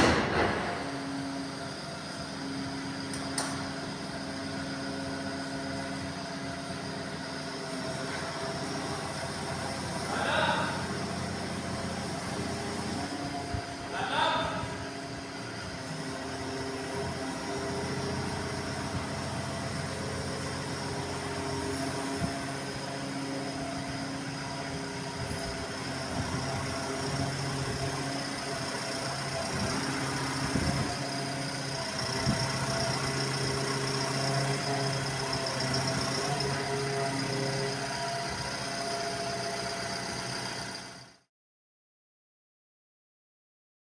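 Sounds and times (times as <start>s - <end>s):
excavator diesel engine running: 0.0s - 41.2s.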